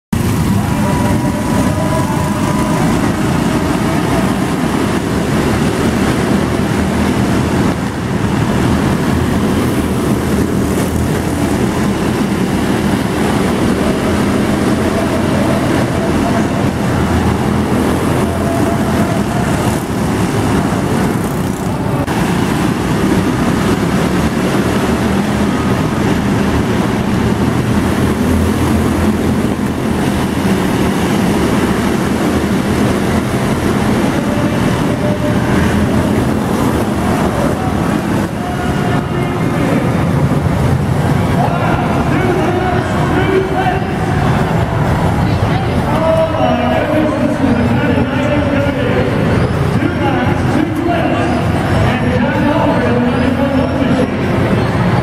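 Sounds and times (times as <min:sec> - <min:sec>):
stock car engines droning: 0:00.1 - 0:55.0.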